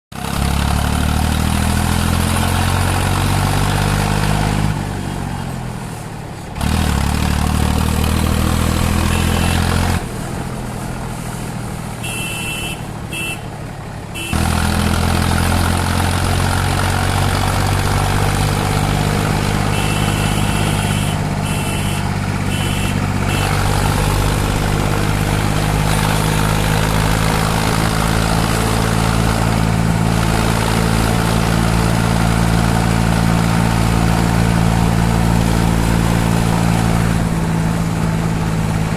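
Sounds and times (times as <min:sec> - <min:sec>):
tractor diesel engine revving: 0:00.1 - 0:38.9.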